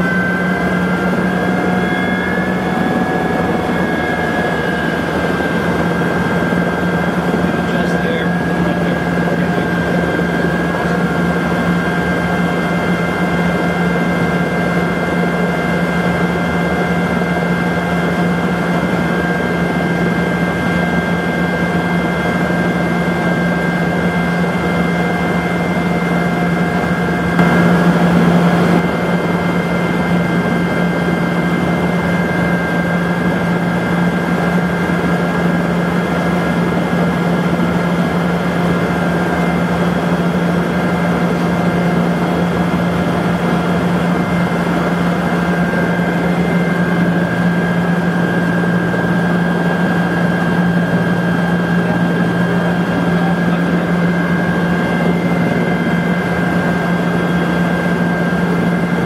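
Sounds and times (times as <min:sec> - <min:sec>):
helicopter turbine and rotor hum: 0:00.0 - 0:59.0
steady whining tones: 0:00.0 - 0:59.0.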